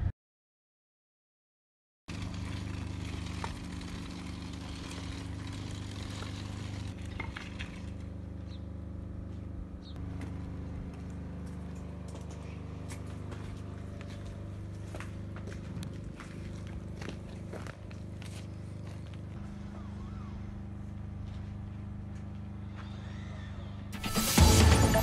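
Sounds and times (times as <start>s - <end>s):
idling vehicle engine hum: 2.1s - 25.0s.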